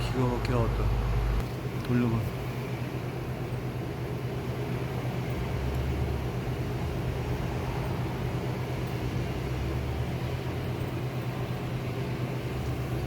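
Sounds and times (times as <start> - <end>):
deeper machine hum: 0.0 - 13.0.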